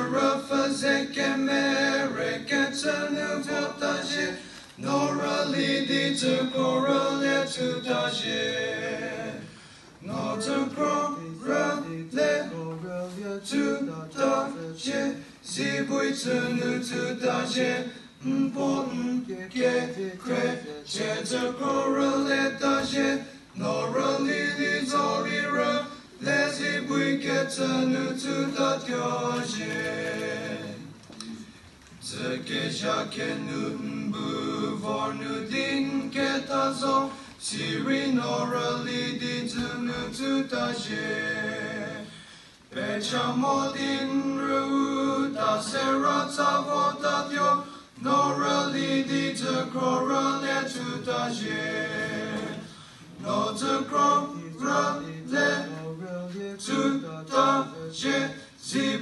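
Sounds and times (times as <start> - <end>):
male ensemble singing a cappella: 0.0 - 59.0.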